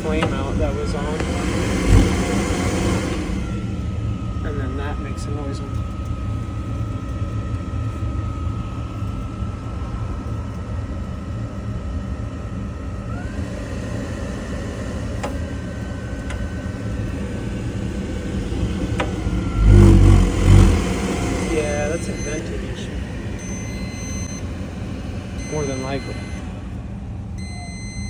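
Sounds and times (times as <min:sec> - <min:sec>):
water heater rumbling: 0:00.0 - 0:11.6, 0:12.3 - 0:28.0
high whine: 0:00.0 - 0:13.4, 0:14.8 - 0:28.0.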